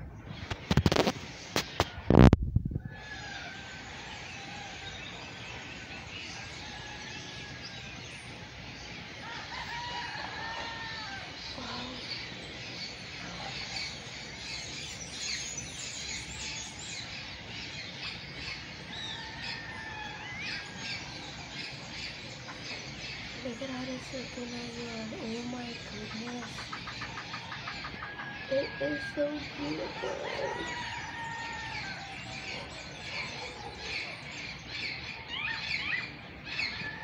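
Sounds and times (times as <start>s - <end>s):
birds chirping: 0.0s - 37.0s
low arching bird call: 0.4s - 37.0s.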